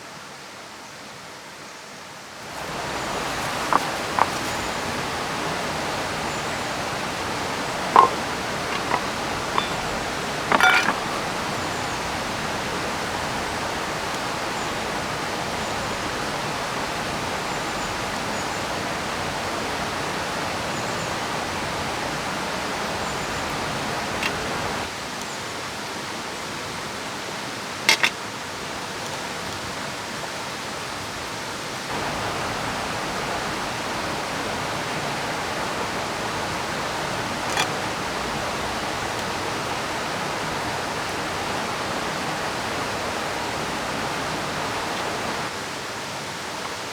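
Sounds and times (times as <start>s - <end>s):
falling rain: 2.2s - 46.9s
river rushing: 2.4s - 24.9s, 31.9s - 46.9s.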